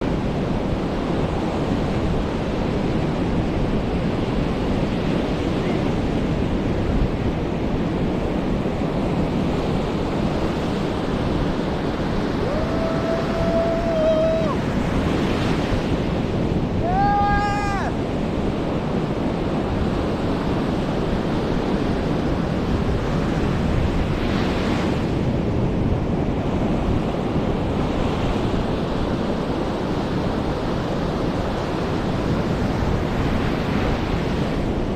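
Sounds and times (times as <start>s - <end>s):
surf breaking on beach: 0.0s - 34.9s.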